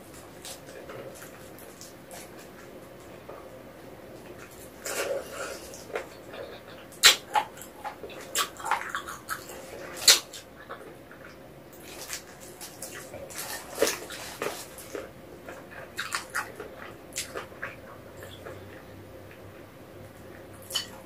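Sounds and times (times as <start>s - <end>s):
person chewing with wet smacks: 0.0s - 21.0s.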